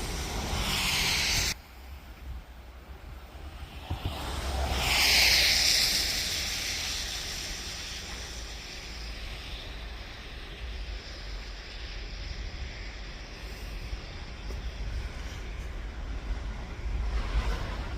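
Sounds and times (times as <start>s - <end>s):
toboggan hissing over snow: 0.0s - 17.9s
wind rumbling on microphone: 0.0s - 17.9s.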